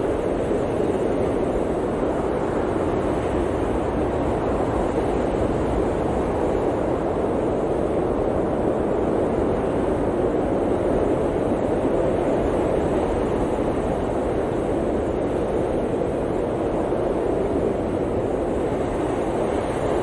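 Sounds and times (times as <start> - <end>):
blizzard wind blowing: 0.0 - 20.0.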